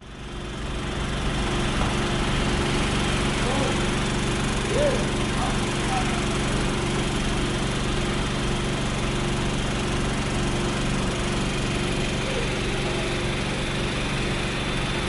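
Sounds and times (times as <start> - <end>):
water pump engine running: 0.0 - 15.0.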